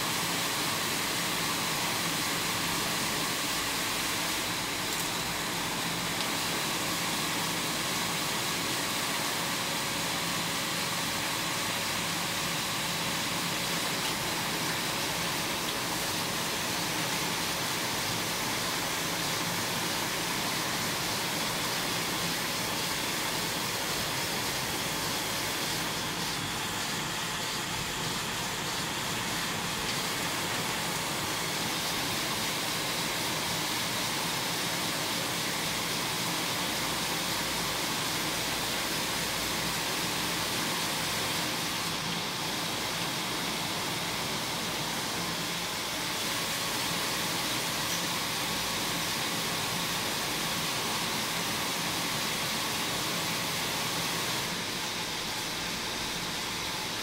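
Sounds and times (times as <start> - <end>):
knitting machines droning: 0.0 - 57.0.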